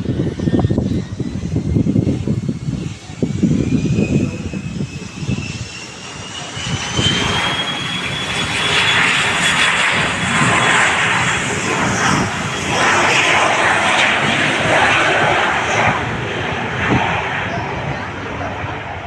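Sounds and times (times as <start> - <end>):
airplane engines roaring: 0.0 - 19.0
high engine whine: 0.0 - 19.0.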